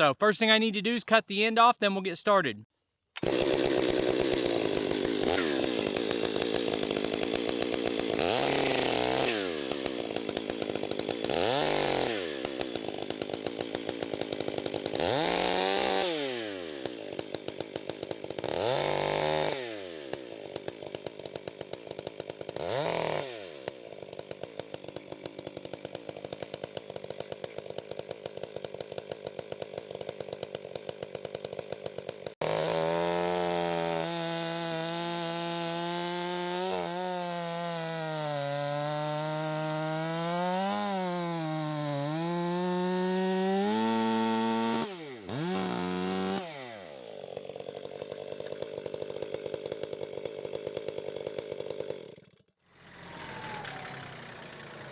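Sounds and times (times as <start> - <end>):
chainsaw cutting a log: 3.2 - 54.9.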